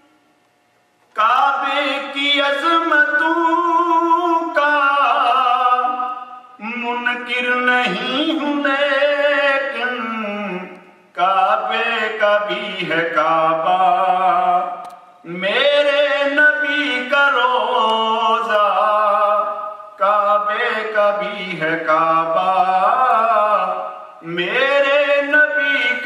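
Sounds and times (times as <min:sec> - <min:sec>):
man singing unaccompanied: 0:01.1 - 0:26.0.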